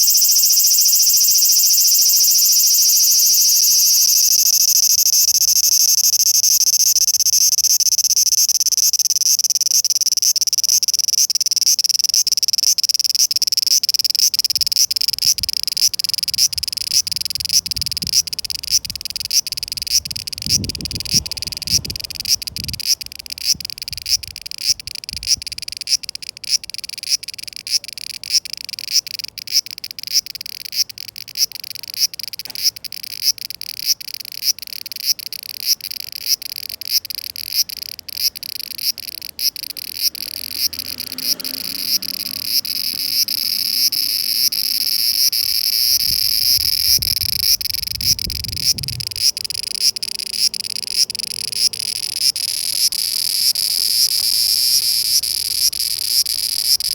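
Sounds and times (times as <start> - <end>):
cicadas buzzing: 0.0 - 56.9.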